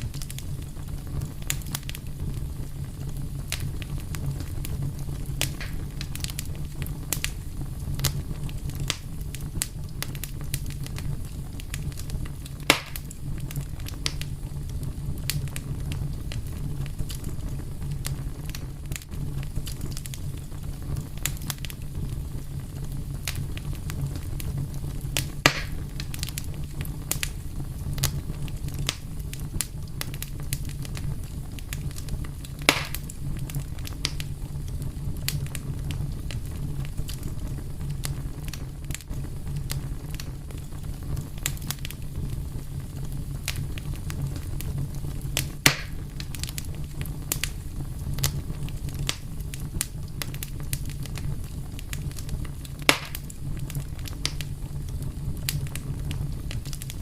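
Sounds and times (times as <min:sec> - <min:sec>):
low rumble of fire: 0:00.0 - 0:57.0
wood fire crackling: 0:00.0 - 0:57.0.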